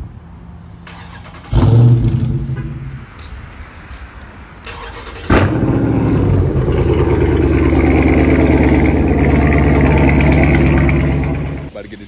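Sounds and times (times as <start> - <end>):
car engine droning: 0.8 - 11.9.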